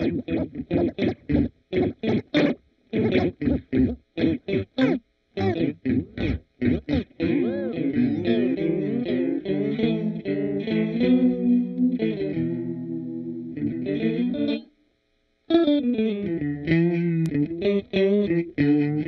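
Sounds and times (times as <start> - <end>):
pitch-shifted electric guitar chords: 0.0 - 14.7, 15.5 - 19.0.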